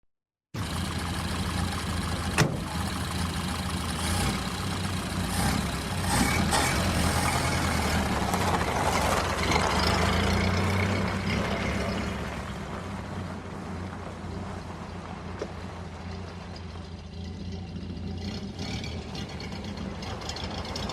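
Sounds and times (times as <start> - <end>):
car engine running: 0.6 - 20.9
tyres crunching on gravel: 4.0 - 20.9.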